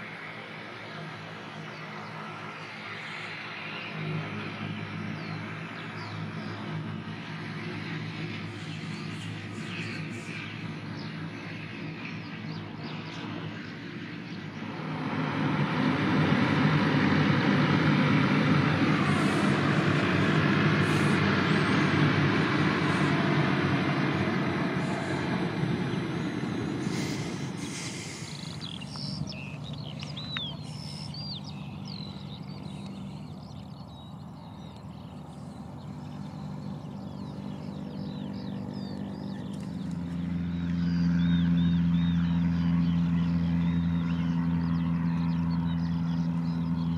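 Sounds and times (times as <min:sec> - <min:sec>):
light plane droning: 0:00.0 - 0:46.9
turboprop engines running: 0:00.0 - 0:46.9
birds chirping: 0:00.1 - 0:46.9.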